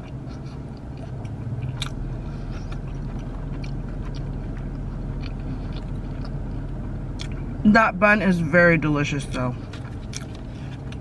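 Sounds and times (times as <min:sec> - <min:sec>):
person chewing: 0:00.0 - 0:07.5, 0:09.6 - 0:11.0
steady low hum: 0:00.0 - 0:11.0.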